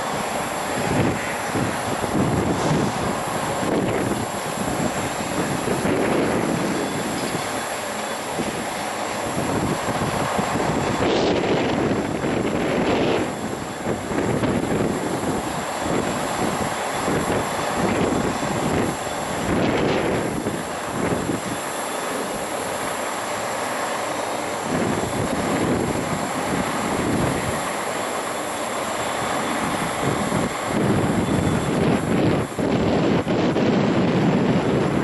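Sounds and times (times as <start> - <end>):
wind buffeting microphone: 0.0 - 22.6, 24.5 - 35.0
jet engines roaring: 0.0 - 35.0.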